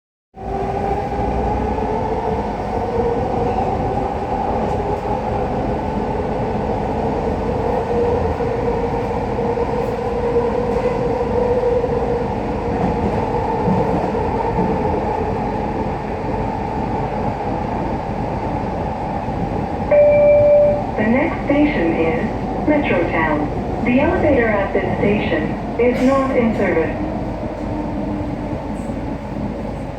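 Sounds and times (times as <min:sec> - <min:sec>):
train car rumbling: 0:00.4 - 0:29.9.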